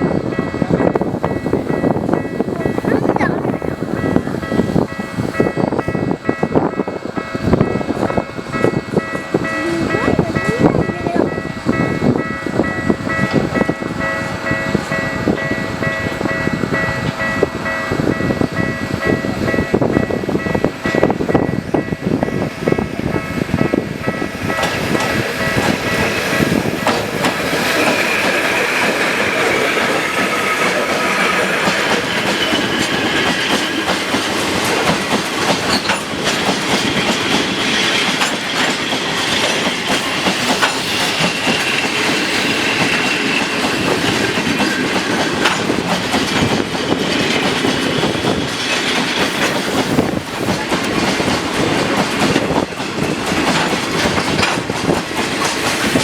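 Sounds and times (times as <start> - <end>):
train wheels clattering on rail joints: 0.0 - 56.0.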